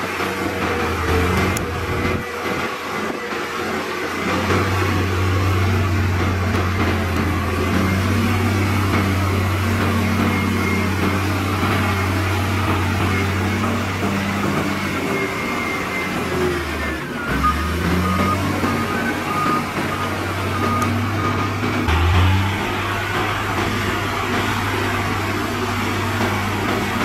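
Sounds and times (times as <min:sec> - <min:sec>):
heavy diesel engine running: 0:00.0 - 0:27.0
reversing alarm beeping: 0:04.3 - 0:27.0.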